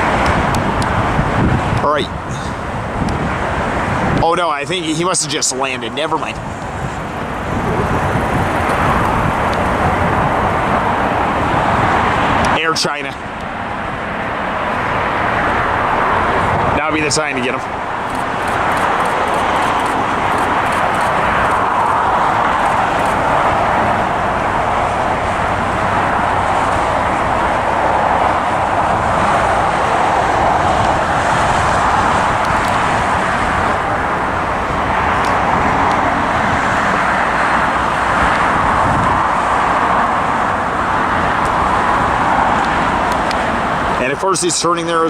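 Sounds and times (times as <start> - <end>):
airliner jet engine taking off: 0.0 - 45.0.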